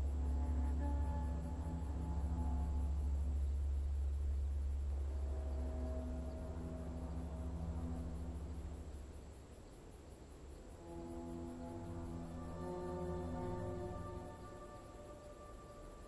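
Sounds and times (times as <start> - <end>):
low drone: 0.0 - 9.4, 10.8 - 16.0
insects chirping: 0.0 - 16.0
soft sustained music tones: 0.0 - 16.0.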